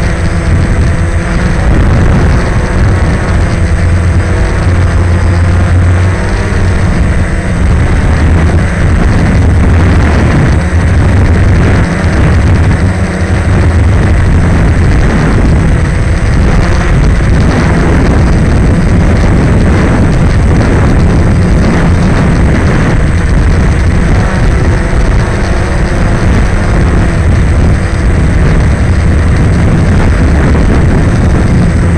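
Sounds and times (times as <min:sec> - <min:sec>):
drone propellers humming: 0:00.0 - 0:31.9.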